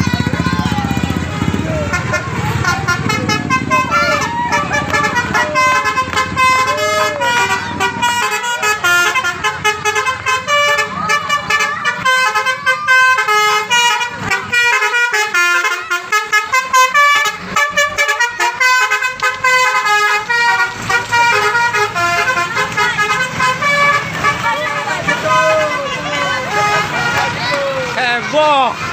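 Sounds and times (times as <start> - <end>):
multi-tone air horn melody: 1.1 - 28.9.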